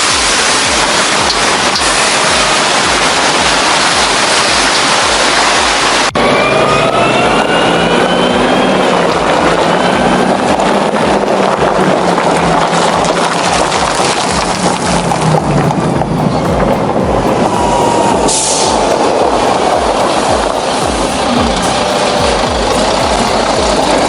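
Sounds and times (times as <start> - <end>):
heavy truck engine under load: 0.0 - 24.0.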